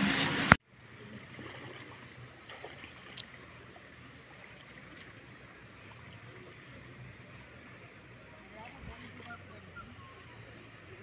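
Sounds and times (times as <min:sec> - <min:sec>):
wading in shallow water: 0:00.0 - 0:11.0
small water splashes: 0:00.1 - 0:11.0.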